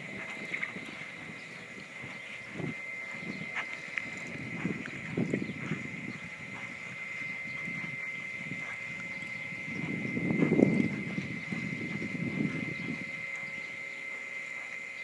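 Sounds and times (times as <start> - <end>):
hoofbeats on soft dirt: 0.0 - 15.0
steady high-pitched whine: 0.0 - 15.0.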